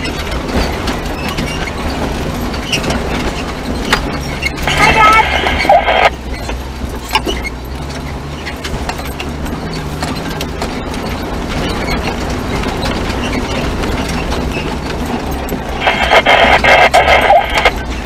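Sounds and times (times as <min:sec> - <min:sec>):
rattles and knocks from bumps: 0:00.0 - 0:04.7, 0:05.4 - 0:15.8
low engine hum: 0:00.0 - 0:18.0.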